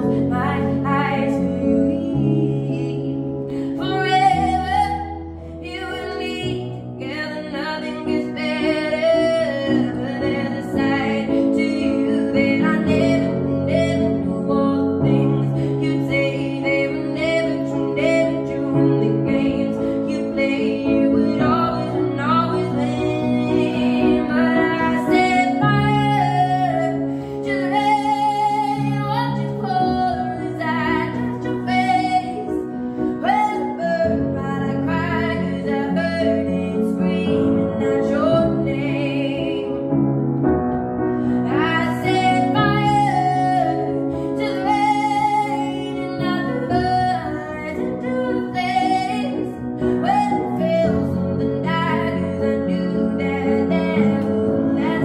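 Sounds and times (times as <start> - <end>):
woman singing: 0.0 - 40.0, 41.2 - 55.0
piano chords: 0.0 - 55.0.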